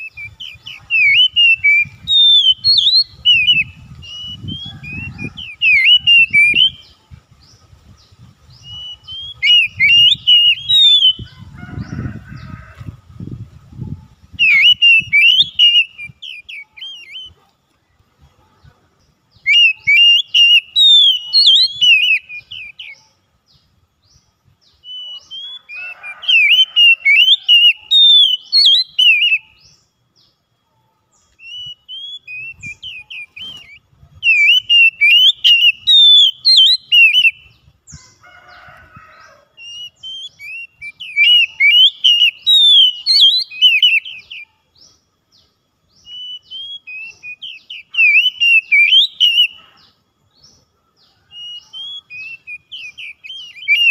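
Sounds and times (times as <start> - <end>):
bird singing whistled notes: 0.0 - 12.6, 13.2 - 17.4, 19.0 - 30.4, 31.1 - 38.2, 39.6 - 53.9.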